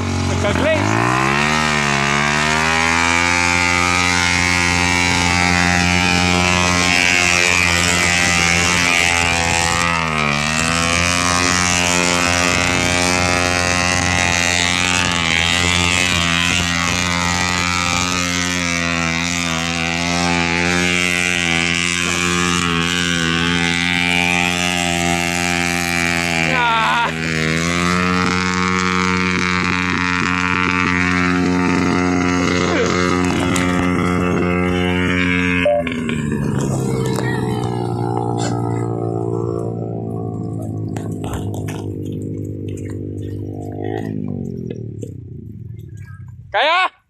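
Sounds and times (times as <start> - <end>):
vehicle engine revving: 0.0 - 46.6.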